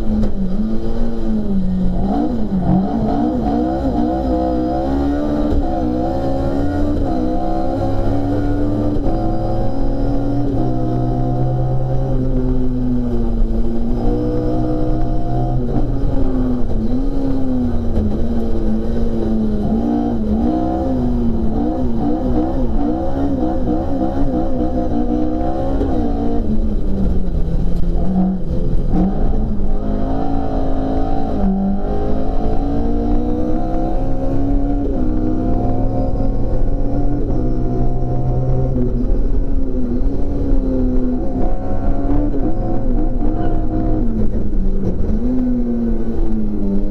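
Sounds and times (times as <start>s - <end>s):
race car engine through gear changes: 0.0s - 46.9s.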